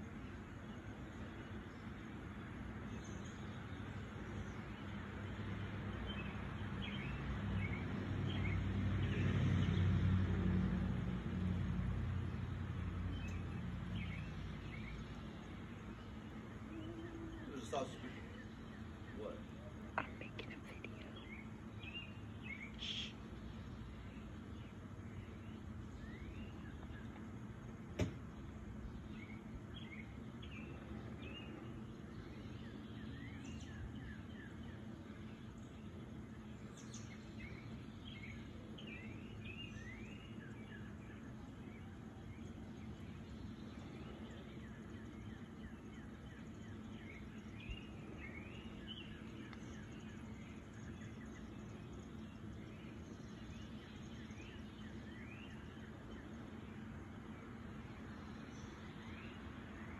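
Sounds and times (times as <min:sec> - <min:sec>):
low outdoor background hum: 0:00.0 - 0:59.9
small birds chirping: 0:00.0 - 0:59.9.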